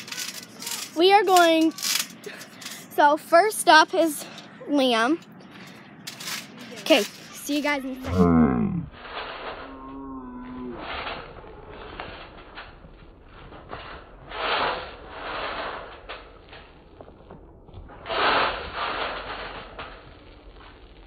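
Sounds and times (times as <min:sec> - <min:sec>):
trampoline springs creaking: 0:00.0 - 0:21.0.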